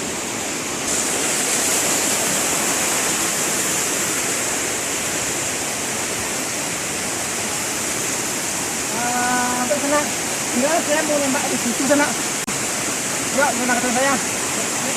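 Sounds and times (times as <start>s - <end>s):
river water rushing: 0.0s - 14.9s.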